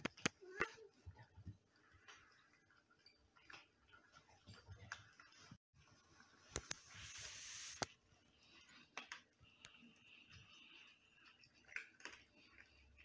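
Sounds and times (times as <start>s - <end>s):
cats chewing and bowl clicks: 0.0s - 5.4s, 7.8s - 13.0s.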